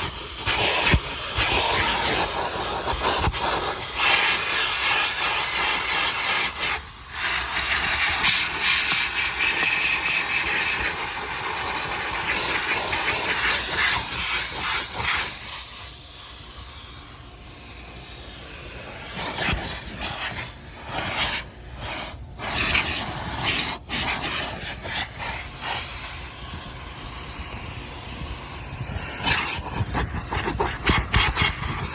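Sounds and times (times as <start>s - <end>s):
vacuum hose sucking air: 0.0s - 31.9s.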